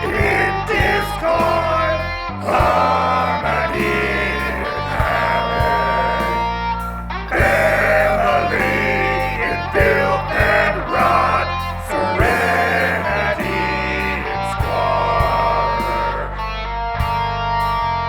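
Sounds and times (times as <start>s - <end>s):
guitar-led song with steady beat: 0.0s - 18.0s.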